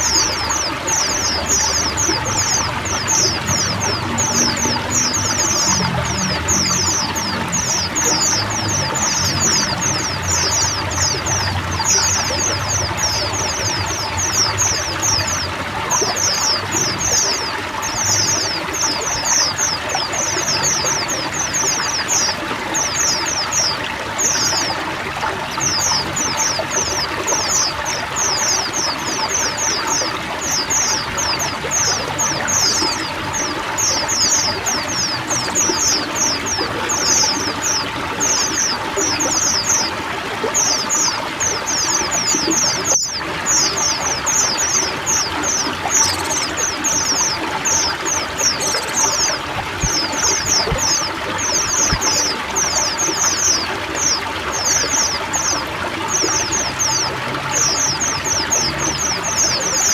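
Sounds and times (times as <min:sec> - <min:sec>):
birds chirping: 0:00.0 - 0:59.9
running water: 0:00.0 - 0:59.9.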